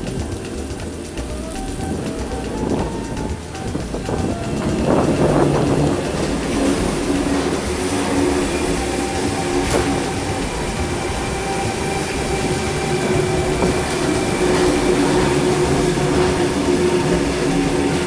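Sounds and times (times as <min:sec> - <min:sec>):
electric train humming and whining: 0:00.0 - 0:18.0.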